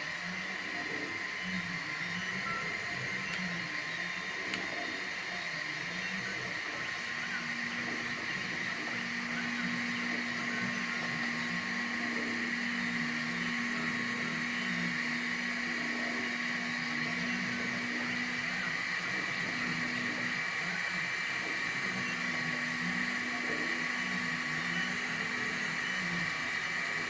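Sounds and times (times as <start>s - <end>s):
machine hum: 0.0s - 27.0s
stepper motors whining: 0.0s - 27.0s.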